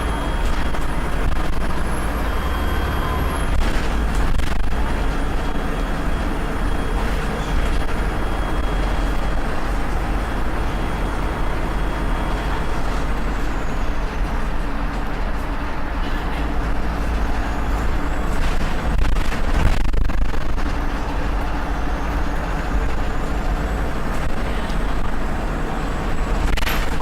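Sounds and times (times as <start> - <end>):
diesel bus engine running: 0.0 - 27.0.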